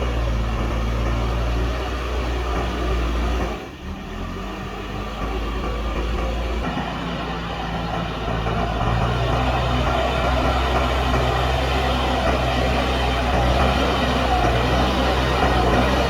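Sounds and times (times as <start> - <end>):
backhoe loader diesel engine: 0.0 - 16.0.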